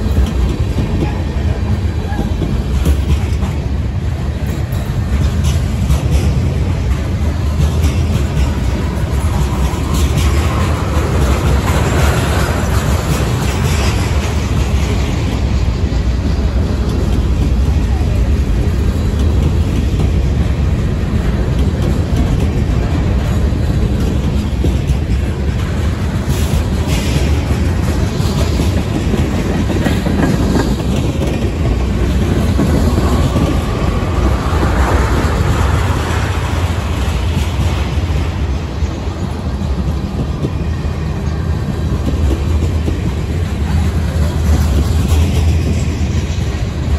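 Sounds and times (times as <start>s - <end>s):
steel wheels rumbling on rail: 0.0s - 46.9s.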